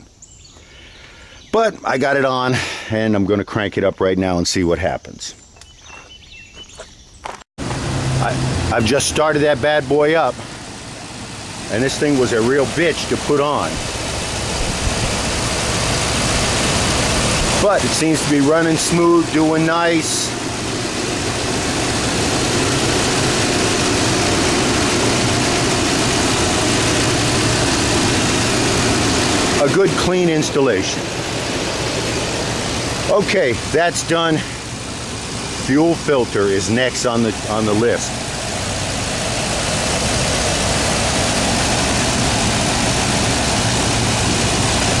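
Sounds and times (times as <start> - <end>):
truck engine idling: 7.6 - 45.0.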